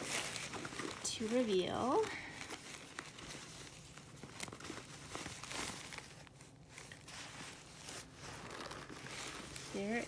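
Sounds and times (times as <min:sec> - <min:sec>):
cloth bag and tissue paper rustling: 0:00.0 - 0:10.0.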